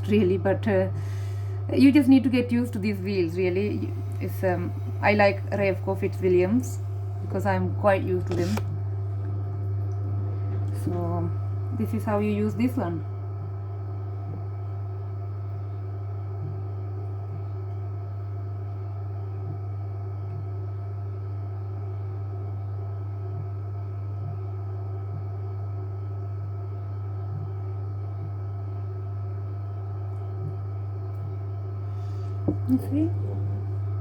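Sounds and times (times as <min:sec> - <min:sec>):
pottery wheel motor hum: 0:00.0 - 0:34.0.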